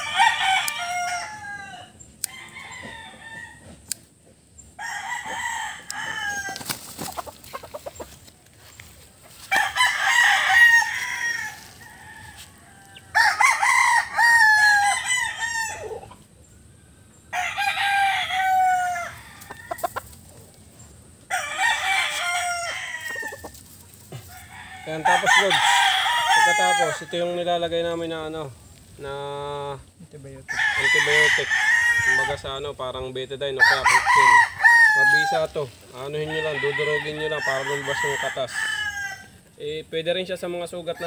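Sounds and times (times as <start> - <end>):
roosters crowing: 0.0 - 41.0.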